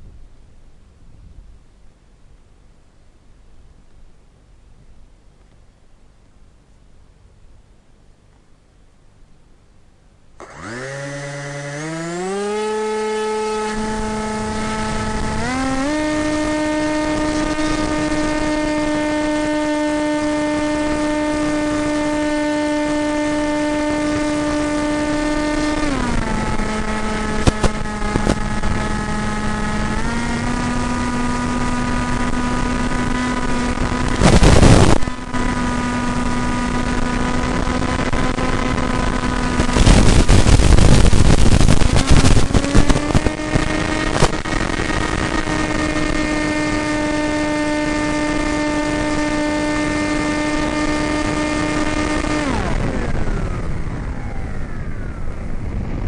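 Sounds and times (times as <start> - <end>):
electric motor whine: 10.4 - 56.0.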